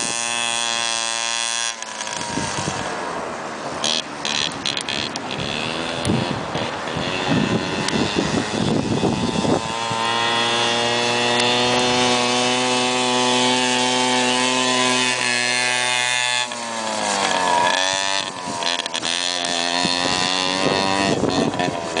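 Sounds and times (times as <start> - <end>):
small atv engine revving: 0.0 - 22.0.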